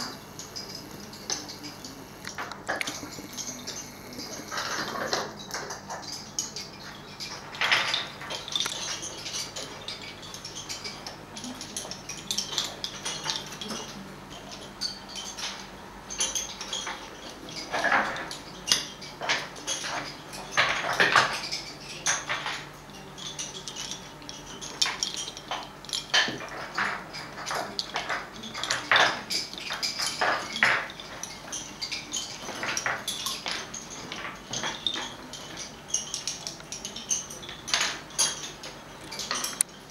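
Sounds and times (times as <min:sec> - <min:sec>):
wooden bobbins clicking together: 0:00.0 - 0:39.9.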